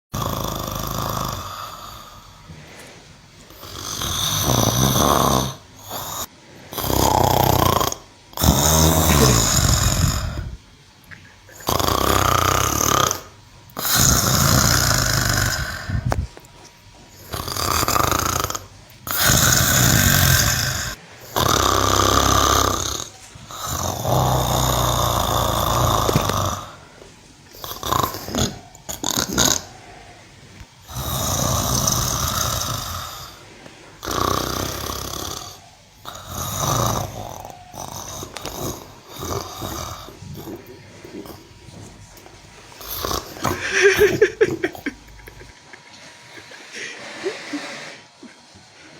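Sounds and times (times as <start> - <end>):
cow snoring: 0.1 - 10.6, 11.5 - 16.3, 17.1 - 27.0, 27.6 - 30.2, 30.8 - 45.5.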